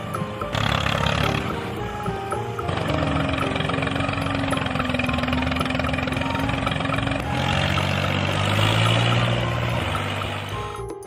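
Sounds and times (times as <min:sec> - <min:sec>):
small engine running: 0:00.5 - 0:10.9.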